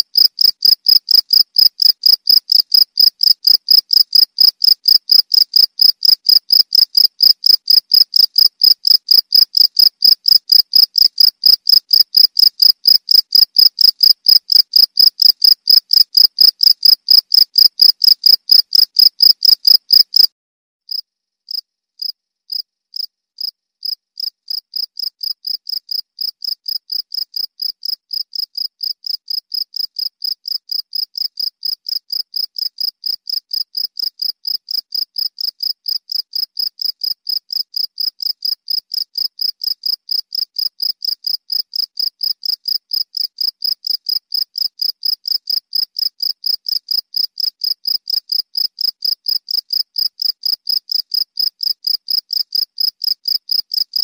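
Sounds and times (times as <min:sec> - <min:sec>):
cricket chirping: 0:00.2 - 0:20.3, 0:20.9 - 0:54.0.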